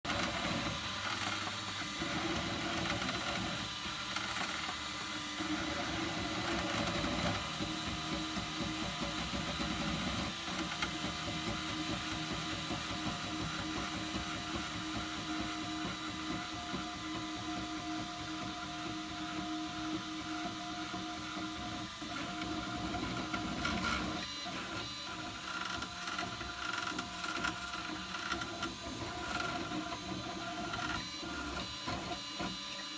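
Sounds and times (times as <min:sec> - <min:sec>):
printer stepper motors whining: 0:00.1 - 0:32.9.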